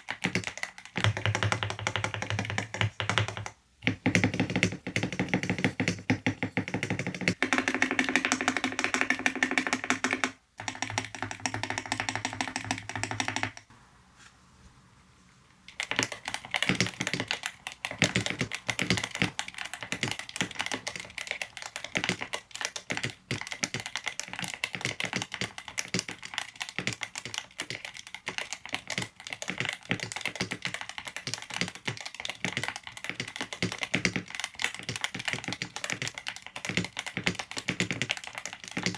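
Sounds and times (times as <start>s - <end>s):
mechanical keyboard typing: 0.0s - 13.7s, 15.7s - 38.9s.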